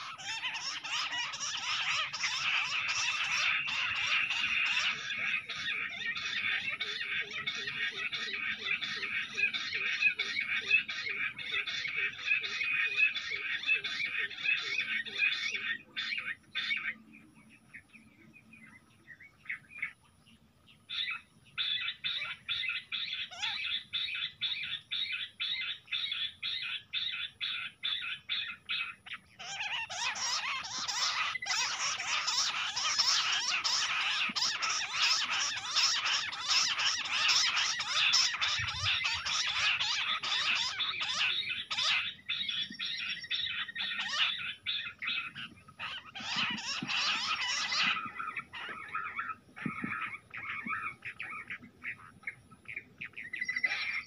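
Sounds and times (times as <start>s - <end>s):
quail chirping calls: 0.0s - 54.0s.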